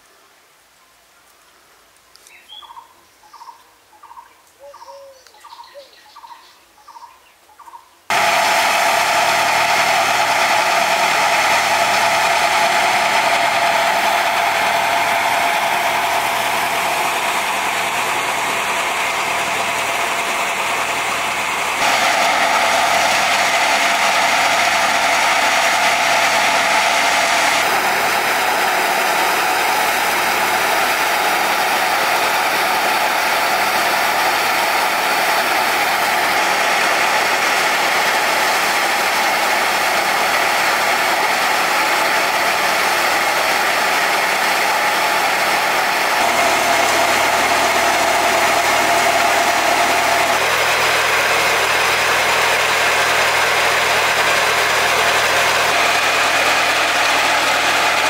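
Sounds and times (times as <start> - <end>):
loud machine engine noise: 8.1 - 58.0.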